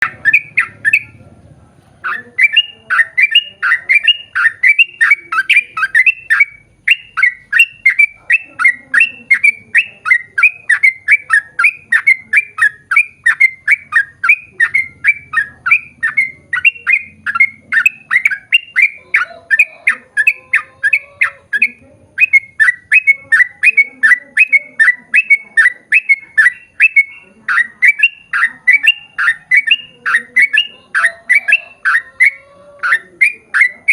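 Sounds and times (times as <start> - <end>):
bulbul singing: 0.0 - 1.4, 2.0 - 33.9.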